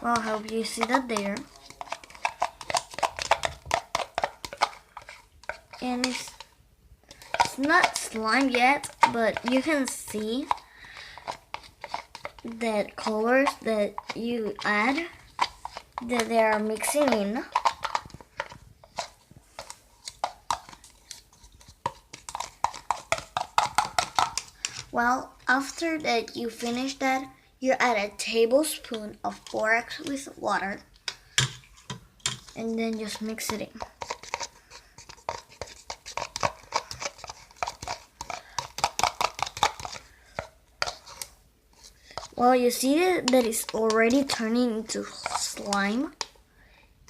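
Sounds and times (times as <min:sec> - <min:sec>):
spoon stirring wet slime: 0:00.0 - 0:46.8.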